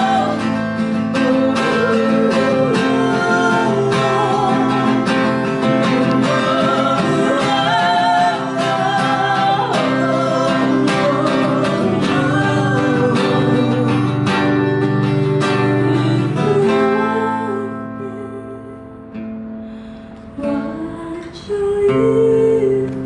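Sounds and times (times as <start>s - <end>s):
woman singing: 0.0s - 19.2s, 19.8s - 23.0s
strummed acoustic guitar: 0.0s - 23.0s.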